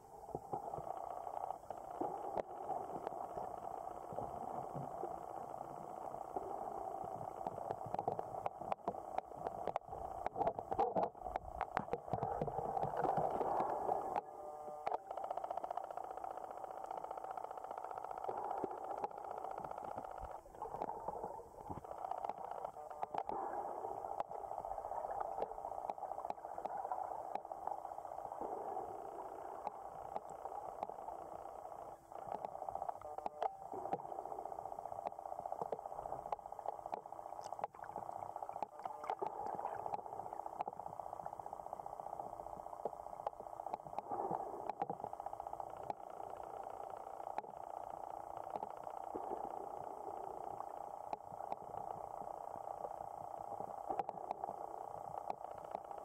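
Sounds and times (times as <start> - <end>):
sharp underwater clicks: 5.1 - 41.4, 42.7 - 56.0.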